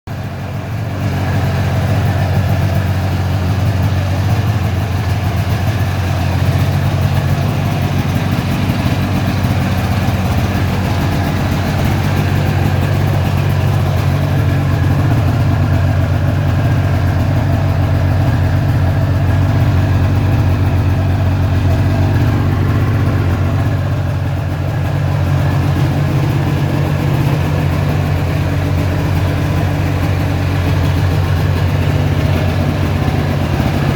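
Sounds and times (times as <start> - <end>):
snowmobile engine idling: 0.1 - 33.9.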